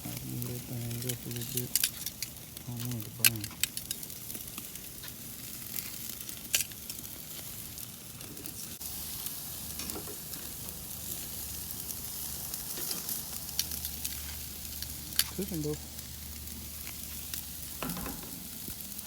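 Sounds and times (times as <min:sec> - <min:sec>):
fat crackling and popping: 0:00.0 - 0:19.0
steaks sizzling on a grill: 0:00.0 - 0:19.0.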